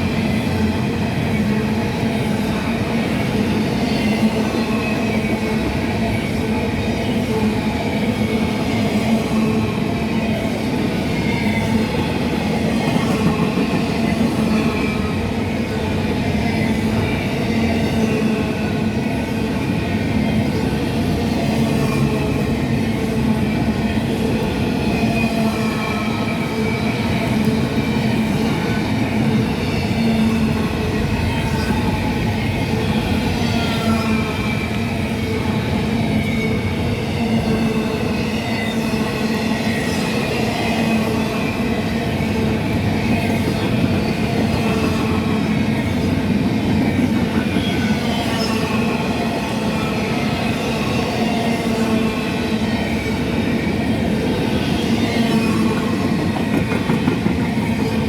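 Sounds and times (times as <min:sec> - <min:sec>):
train cars rumbling on rails: 0:00.0 - 0:58.0.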